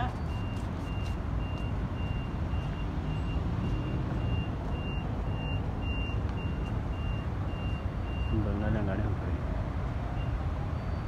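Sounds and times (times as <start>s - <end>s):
reversing alarm beeping: 0.0s - 8.9s.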